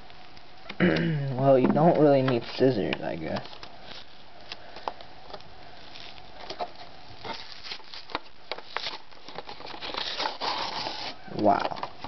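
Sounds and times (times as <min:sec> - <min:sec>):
plastic packaging crackling: 0:01.4 - 0:12.0.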